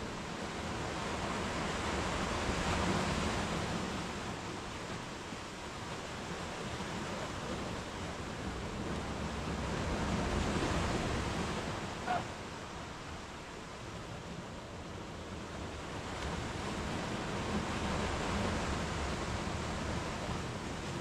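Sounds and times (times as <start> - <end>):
sea waves breaking on beach: 0.0 - 21.0.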